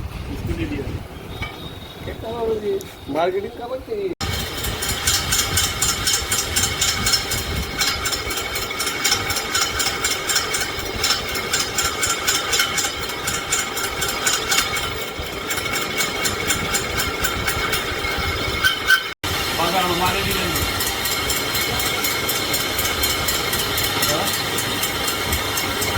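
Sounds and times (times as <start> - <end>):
machine running: 4.2 - 25.9
rapid even ticking: 4.2 - 25.9.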